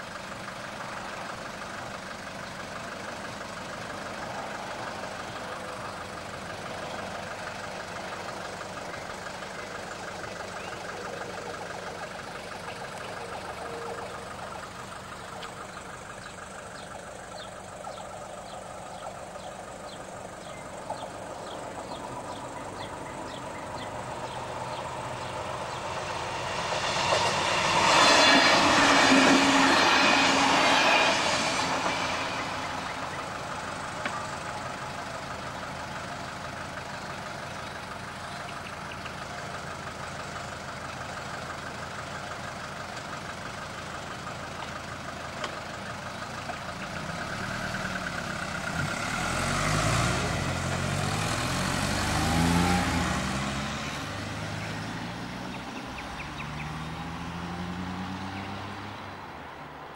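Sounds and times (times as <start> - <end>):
diesel train passing: 0.0 - 59.9
car engine passing: 2.8 - 39.7, 45.6 - 59.9.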